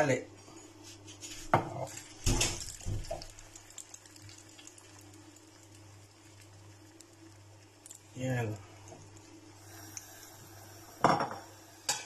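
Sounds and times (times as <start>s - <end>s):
egg sizzling in oil: 1.5s - 12.0s.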